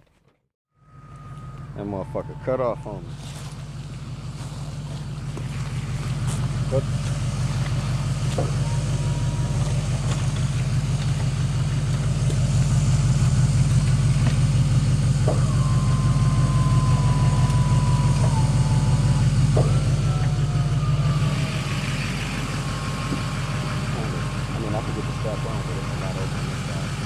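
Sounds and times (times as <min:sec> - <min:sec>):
thin whine: 0:00.7 - 0:27.0
truck engine running: 0:00.8 - 0:27.0.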